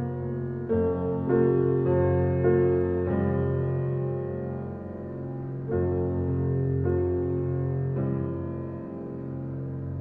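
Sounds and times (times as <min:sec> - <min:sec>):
piano chord: 0:00.0 - 0:10.0.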